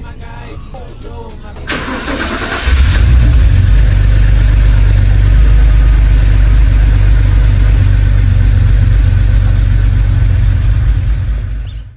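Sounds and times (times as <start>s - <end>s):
car engine idling: 1.6s - 11.9s.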